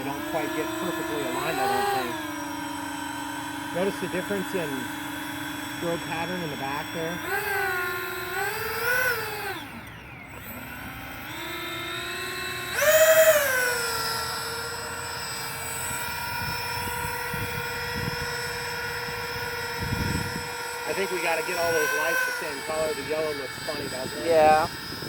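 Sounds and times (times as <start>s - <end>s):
electric fan motors whining: 0.0s - 25.0s.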